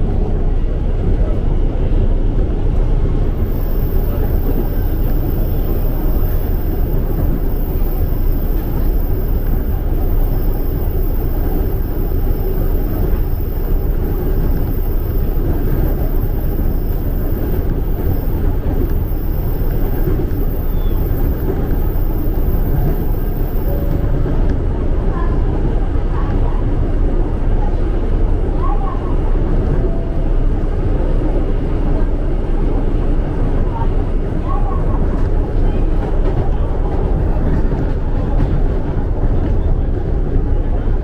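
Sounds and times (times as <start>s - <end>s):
electric train rumbling: 0.0s - 41.0s.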